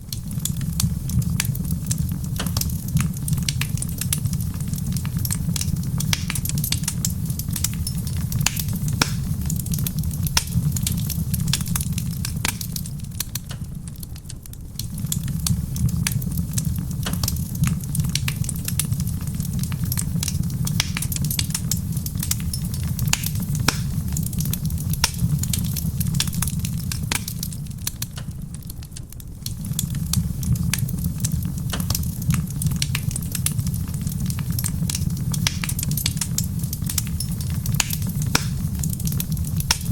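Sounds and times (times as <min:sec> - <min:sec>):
soft rain on a roof: 0:00.0 - 0:39.9
wood fire crackling and popping: 0:00.0 - 0:39.9.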